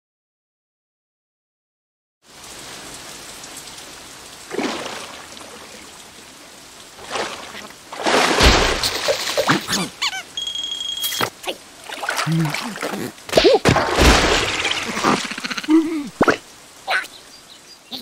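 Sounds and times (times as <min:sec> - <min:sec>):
cartoon rain falling: 0:02.3 - 0:18.0.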